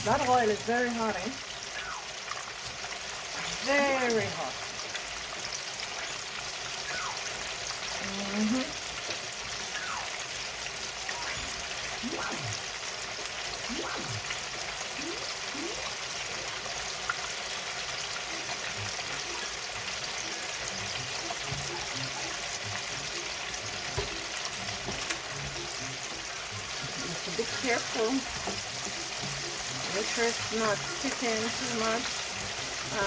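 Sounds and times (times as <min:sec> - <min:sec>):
oil sizzling while deep-frying: 0:00.0 - 0:33.0.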